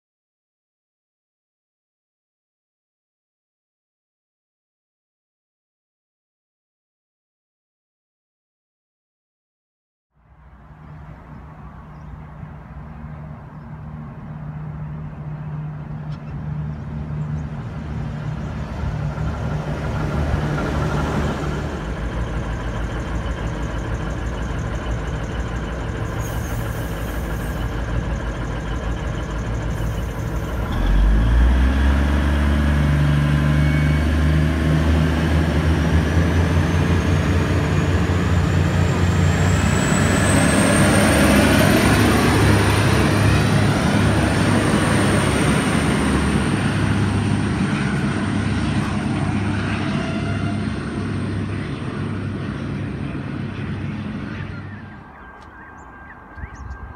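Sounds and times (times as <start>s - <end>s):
diesel train engines droning: 10.2s - 56.9s.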